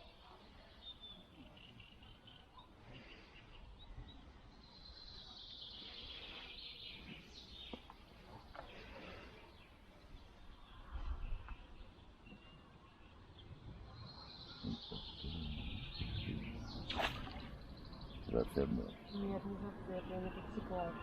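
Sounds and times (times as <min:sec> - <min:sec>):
faint birdsong chirps: 0:00.0 - 0:21.0.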